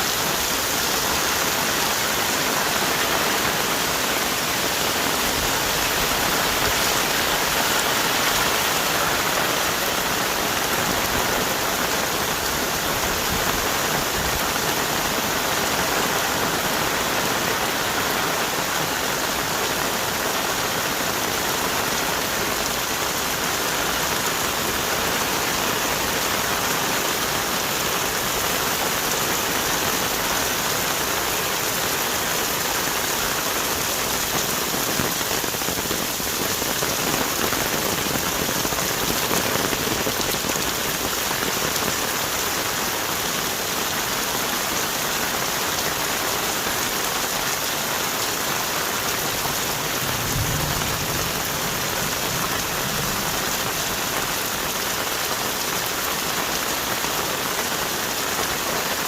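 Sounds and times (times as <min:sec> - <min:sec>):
heavy rain on trees: 0:00.0 - 0:59.0.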